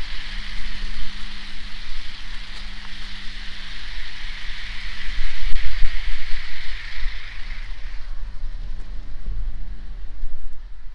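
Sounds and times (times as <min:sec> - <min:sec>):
lawnmower engine drone: 0:00.0 - 0:10.9
low buffeting rumble: 0:00.0 - 0:10.9
model train wheels hissing on rail: 0:00.0 - 0:10.9.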